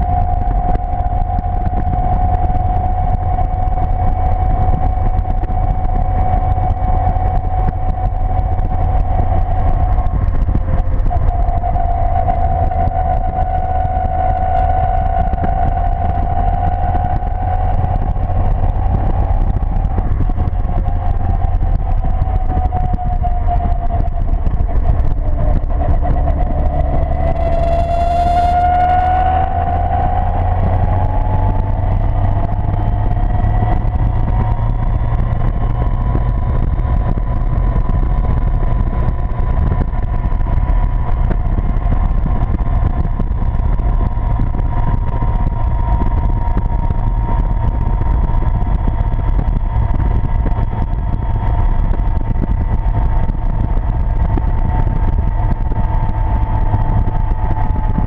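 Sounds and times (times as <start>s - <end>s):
road and wind noise: 0.0s - 58.0s
sports car engine running hard: 0.0s - 58.0s.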